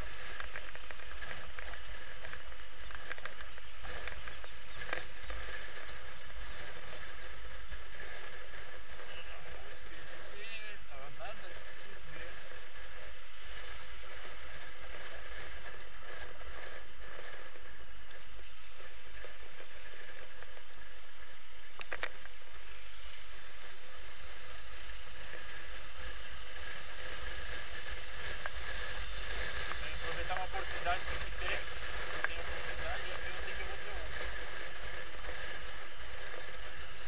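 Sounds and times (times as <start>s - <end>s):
deep buffeting rumble: 0.0s - 37.0s
wind rush and road noise: 0.0s - 37.0s.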